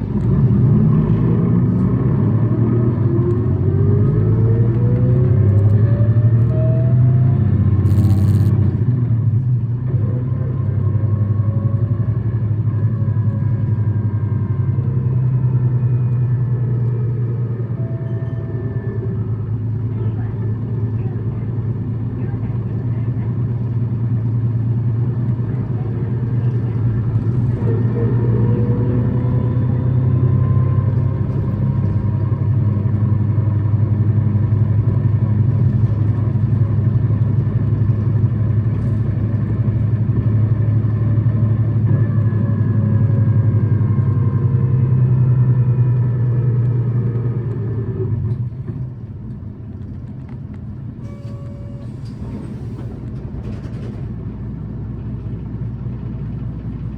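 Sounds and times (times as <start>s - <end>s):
bus engine droning: 0.0s - 56.9s
thin drivetrain whine: 0.0s - 56.9s.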